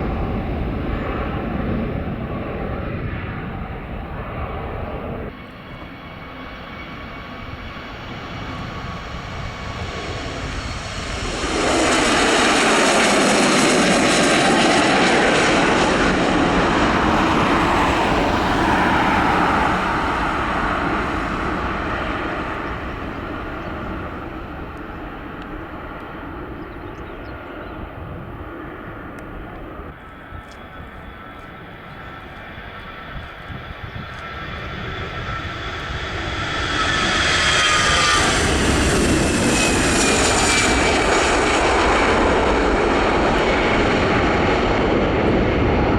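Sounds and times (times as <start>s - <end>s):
jet airliner passing: 0.0s - 45.9s.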